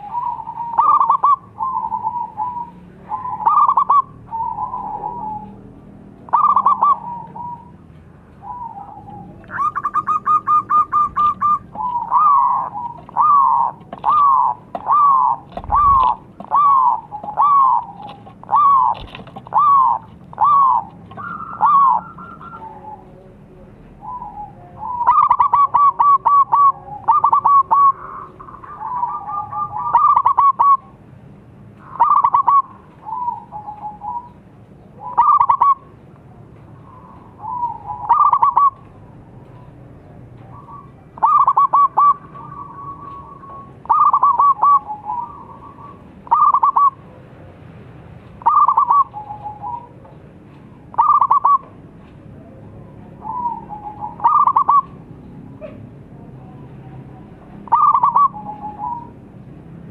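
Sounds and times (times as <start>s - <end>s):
dove cooing: 0.0s - 31.0s, 31.8s - 36.0s, 36.8s - 47.3s, 48.4s - 59.2s.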